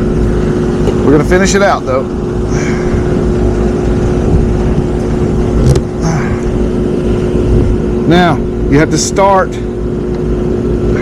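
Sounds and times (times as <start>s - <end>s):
hvac unit mechanical drone: 0.0s - 11.0s.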